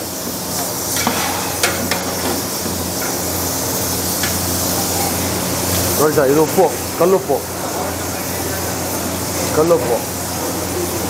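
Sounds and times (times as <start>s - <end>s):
steady hiss and low hum: 0.0s - 11.0s.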